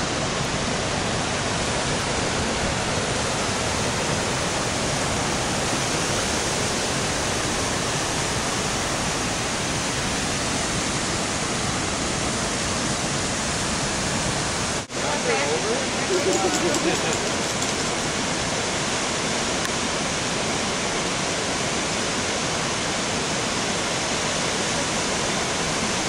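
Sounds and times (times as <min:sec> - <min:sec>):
river rapids rushing: 0:00.0 - 0:26.0.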